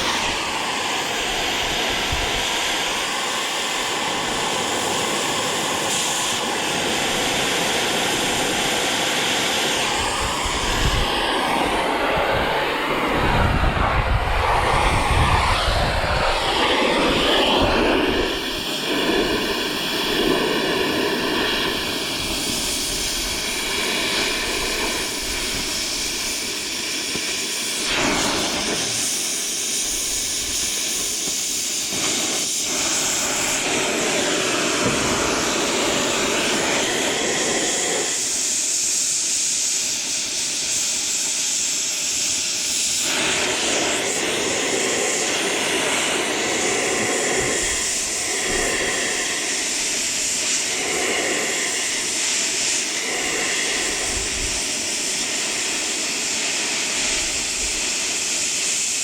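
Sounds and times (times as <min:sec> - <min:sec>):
welding arc crackling and hissing: 0:00.0 - 0:59.0.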